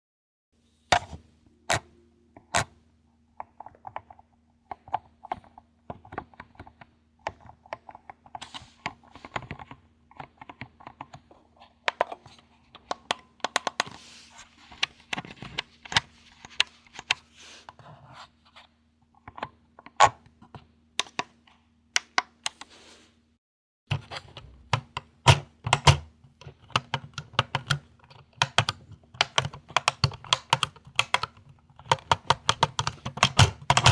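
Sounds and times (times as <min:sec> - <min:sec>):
faint steady hum: 0:00.6 - 0:33.9.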